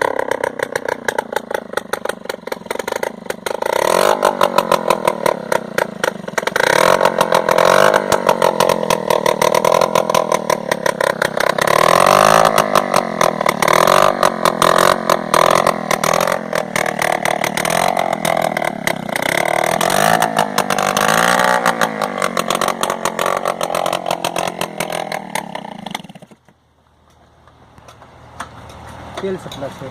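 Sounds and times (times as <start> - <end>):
small engine revving: 0.0 - 26.5.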